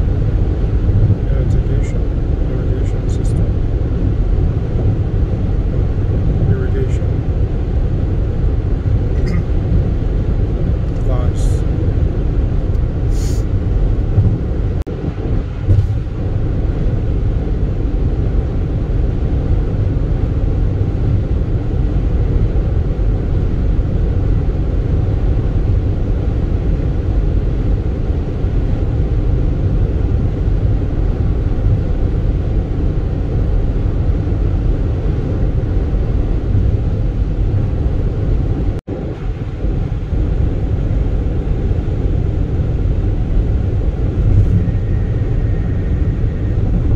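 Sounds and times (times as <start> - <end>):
road and tyre rumble: 0.0 - 46.9.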